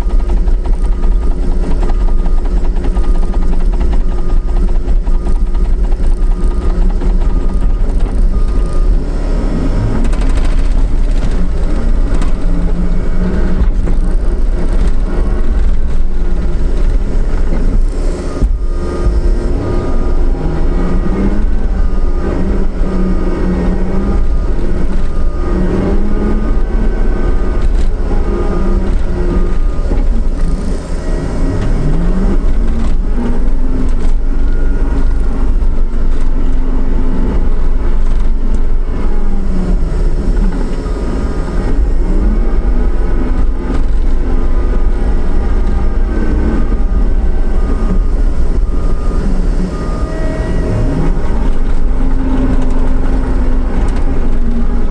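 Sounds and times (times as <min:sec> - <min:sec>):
diesel engine working hard: 0:00.0 - 0:54.9.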